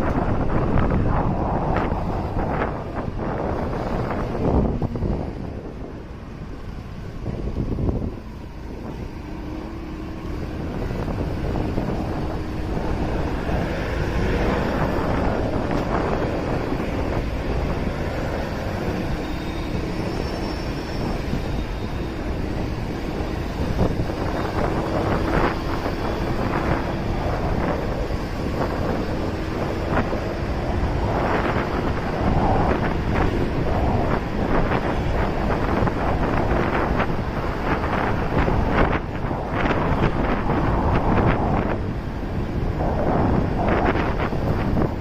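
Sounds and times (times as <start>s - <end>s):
wind rush on microphone: 0.0s - 45.0s.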